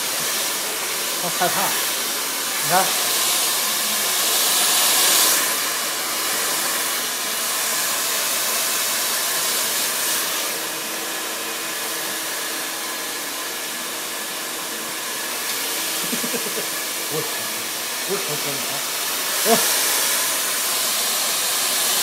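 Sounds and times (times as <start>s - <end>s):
pet dryer blowing air: 0.0s - 22.0s.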